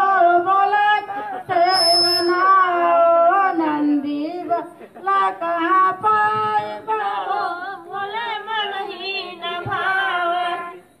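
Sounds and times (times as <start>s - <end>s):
woman singing devotional song: 0.0s - 11.0s.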